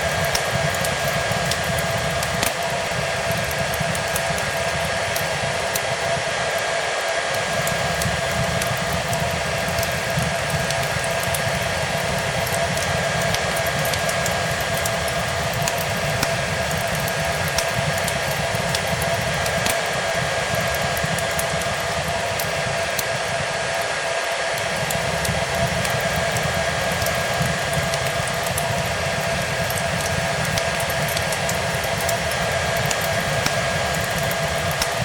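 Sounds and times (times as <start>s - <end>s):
hair dryer running: 0.0s - 35.0s
wood fire crackling: 0.0s - 35.0s.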